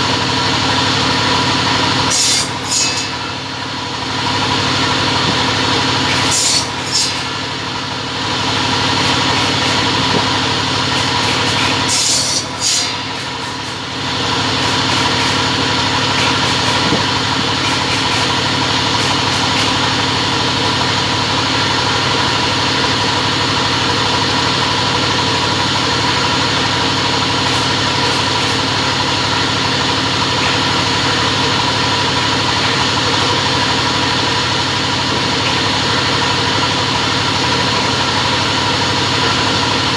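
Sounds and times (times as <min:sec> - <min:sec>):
cutting machine humming: 0:00.0 - 0:39.9.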